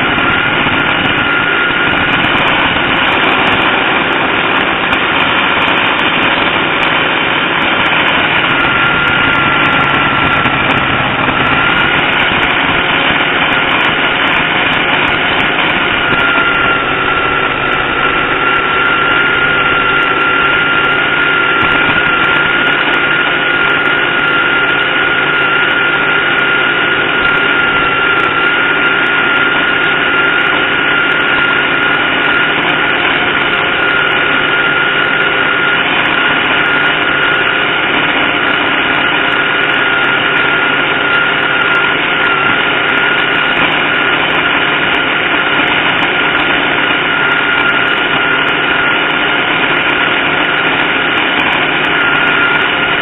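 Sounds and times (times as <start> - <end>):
drag car engine idling: 0.0 - 53.0
steady high whine: 0.0 - 53.0.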